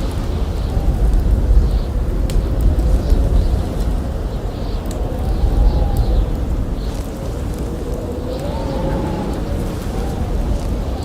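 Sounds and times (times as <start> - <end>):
campfire crackling: 0.0 - 11.0
wind blowing hard: 0.0 - 11.0.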